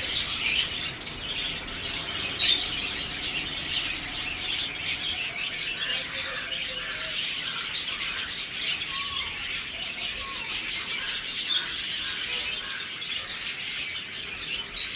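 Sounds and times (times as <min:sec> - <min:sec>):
budgerigars chirping and chattering: 0:00.0 - 0:14.9.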